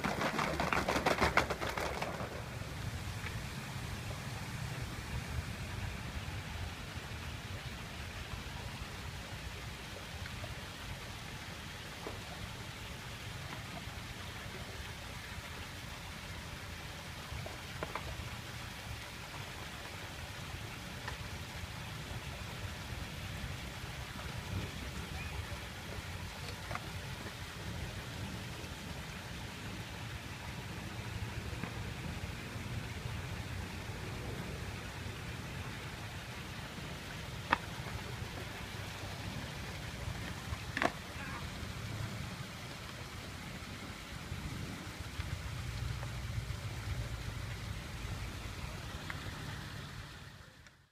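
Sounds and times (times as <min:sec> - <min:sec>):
fountain water splashing into pool: 0:00.0 - 0:50.9.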